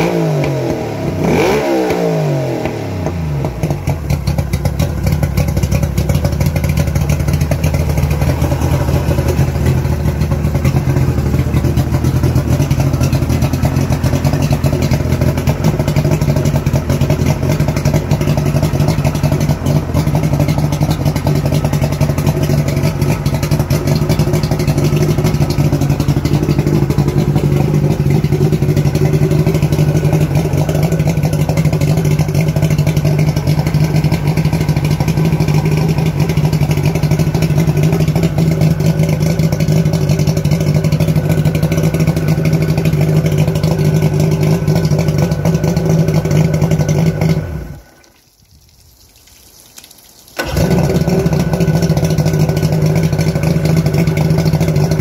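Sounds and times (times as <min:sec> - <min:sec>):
outboard motor running: 0:00.0 - 0:48.0, 0:50.4 - 0:55.0.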